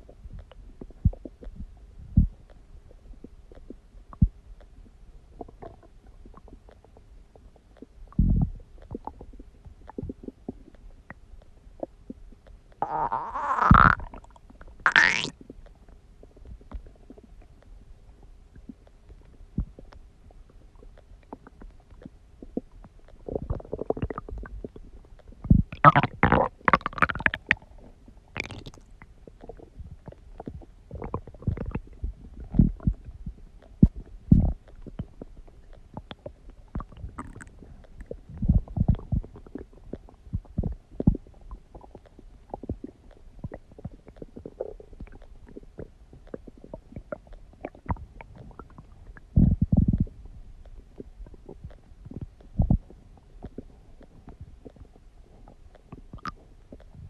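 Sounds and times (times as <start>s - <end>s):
stomach growling and gurgling: 0.0s - 57.0s.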